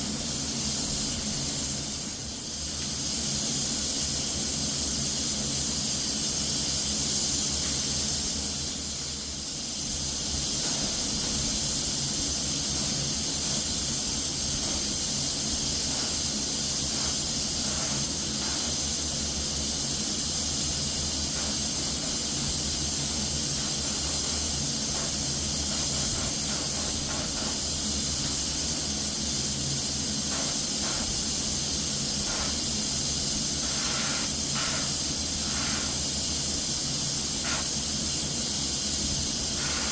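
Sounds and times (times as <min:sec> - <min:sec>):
spray gun hissing: 0:00.0 - 0:39.9.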